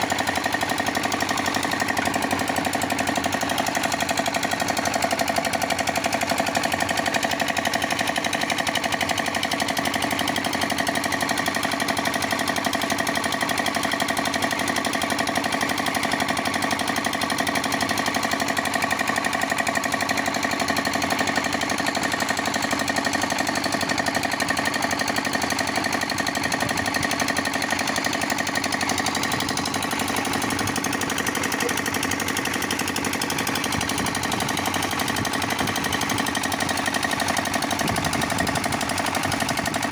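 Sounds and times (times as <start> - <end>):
concrete mixer running: 0.0 - 39.9.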